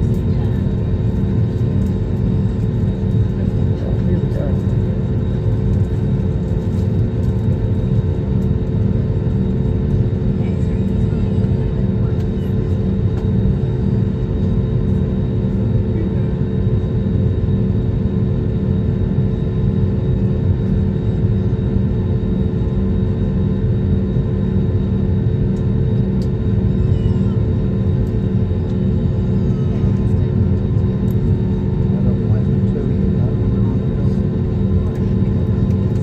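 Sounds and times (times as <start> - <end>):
airliner cabin engine and airflow rush: 0.0 - 36.0
constant hum: 0.0 - 36.0.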